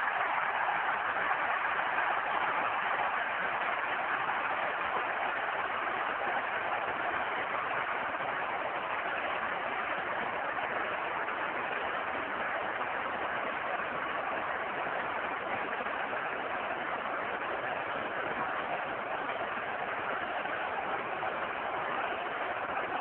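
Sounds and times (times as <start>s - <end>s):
stadium crowd noise: 0.0s - 23.0s.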